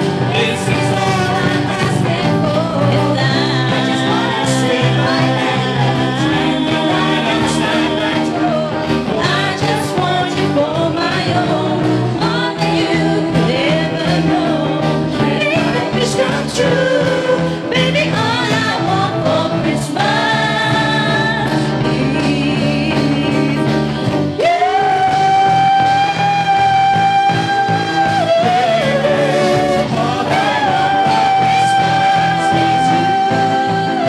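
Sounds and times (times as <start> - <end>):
drums: 0.0 - 34.0
electric guitar: 0.0 - 34.0
keyboard: 0.0 - 34.0
people singing: 0.0 - 34.0.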